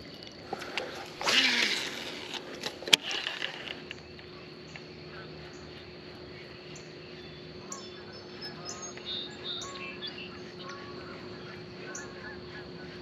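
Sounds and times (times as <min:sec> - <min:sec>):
birds chirping: 0:00.0 - 0:13.0
faint steady hum: 0:00.0 - 0:13.0.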